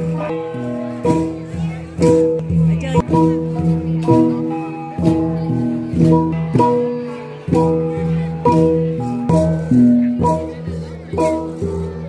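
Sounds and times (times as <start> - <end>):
gongs struck with mallets: 0.0 - 12.0.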